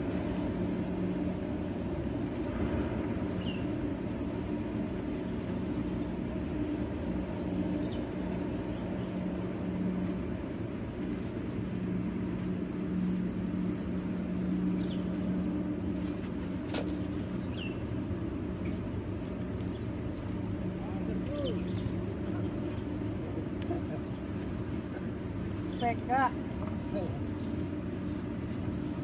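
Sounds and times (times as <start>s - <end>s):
low motor hum: 0.0s - 29.0s.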